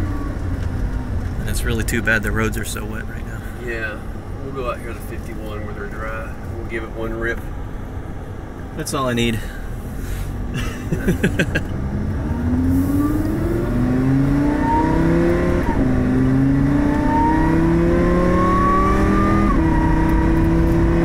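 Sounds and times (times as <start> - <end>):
car engine accelerating: 0.0 - 7.6, 9.8 - 21.0.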